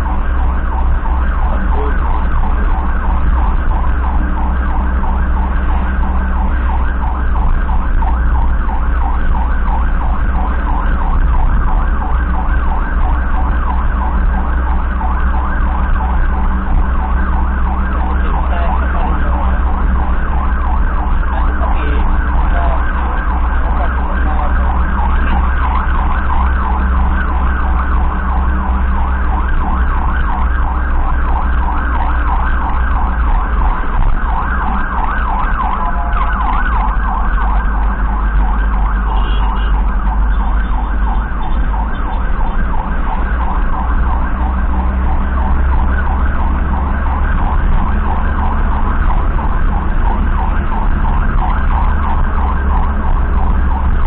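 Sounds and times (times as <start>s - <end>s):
electronic siren warbling: 0.0s - 54.0s
vehicle engine and road rumble: 0.0s - 54.0s.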